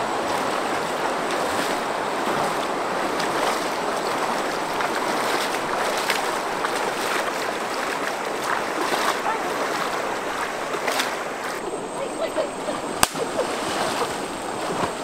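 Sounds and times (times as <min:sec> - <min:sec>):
flowing water: 0:00.0 - 0:15.0.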